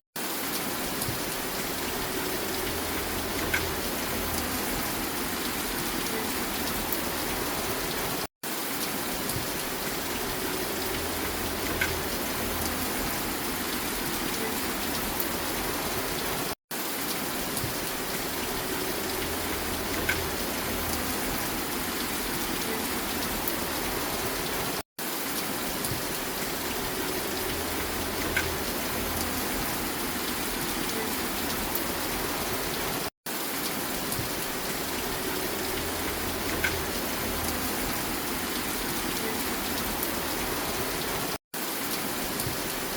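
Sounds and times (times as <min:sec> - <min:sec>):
steady rain falling: 0:00.2 - 0:42.9
raindrop ticks: 0:00.5 - 0:07.9, 0:08.8 - 0:16.3, 0:17.0 - 0:24.5, 0:25.3 - 0:32.8, 0:33.6 - 0:41.2.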